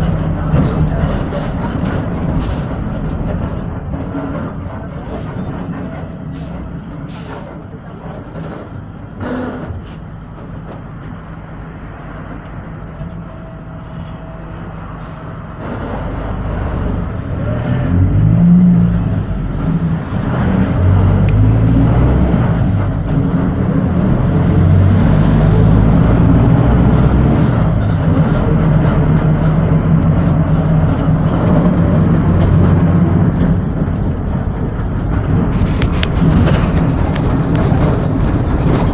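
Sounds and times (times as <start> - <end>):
bus engine accelerating: 0.0 - 38.9.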